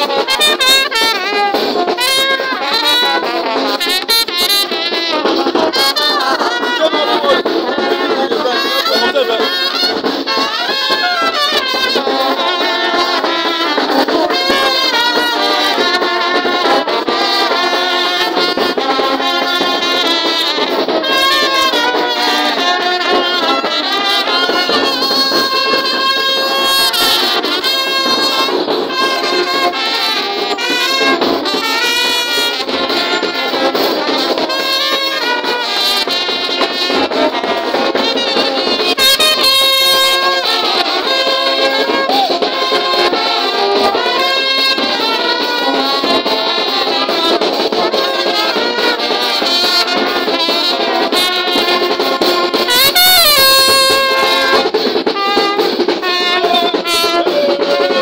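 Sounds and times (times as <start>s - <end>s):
marching brass band playing: 0.0s - 58.0s.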